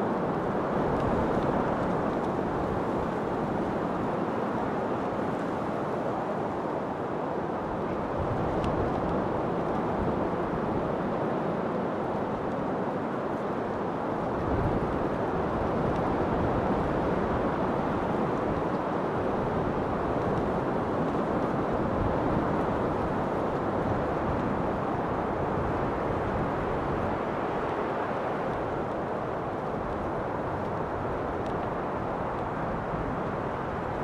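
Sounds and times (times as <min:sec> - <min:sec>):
rushing wind: 0:00.0 - 0:34.0.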